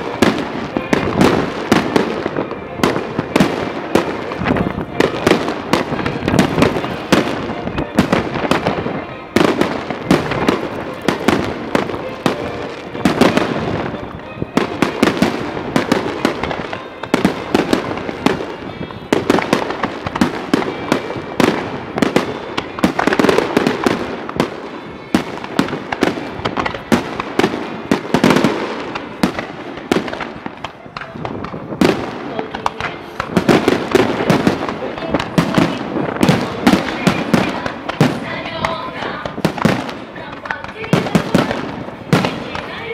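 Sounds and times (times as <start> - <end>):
fireworks bursting with loud bangs: 0.0 - 42.9.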